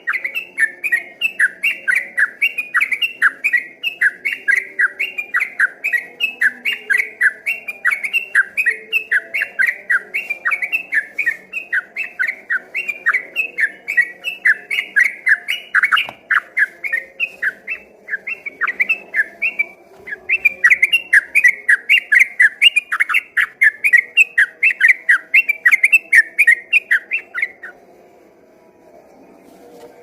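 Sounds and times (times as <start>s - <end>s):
bulbul singing whistled notes: 0.0s - 27.8s.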